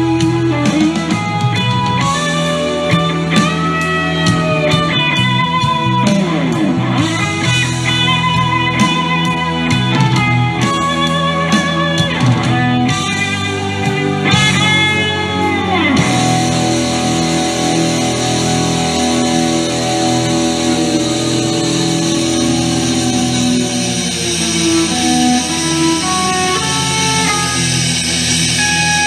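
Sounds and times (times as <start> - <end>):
electric guitar solo: 0.0 - 29.0.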